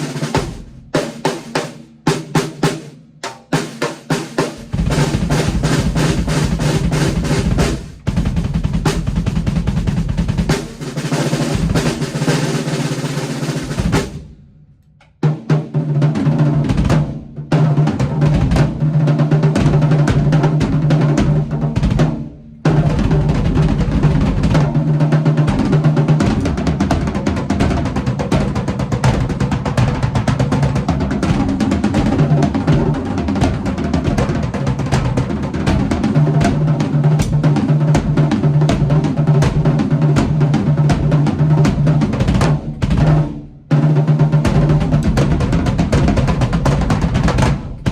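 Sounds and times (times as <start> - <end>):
bass drum: 0.0 - 12.7, 13.3 - 14.8, 15.8 - 47.9
snare drum strokes and rolls: 0.0 - 14.4, 15.0 - 47.9.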